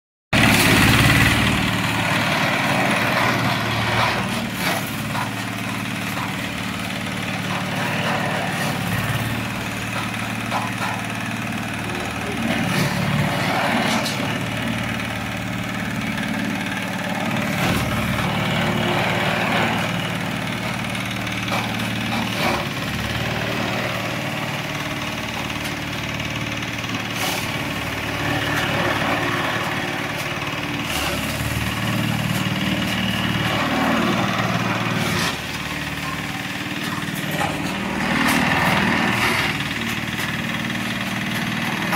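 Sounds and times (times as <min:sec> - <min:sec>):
small diesel engine running: 0:00.4 - 0:41.9.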